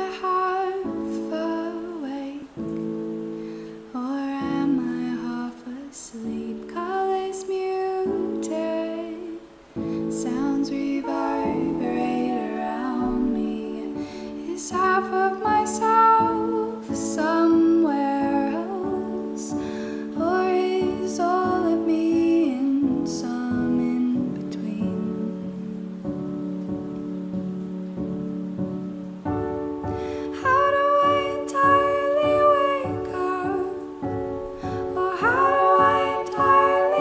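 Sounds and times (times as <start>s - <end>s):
female vocal harmonies: 0.0s - 26.2s, 29.9s - 37.0s
piano chords: 0.0s - 37.0s.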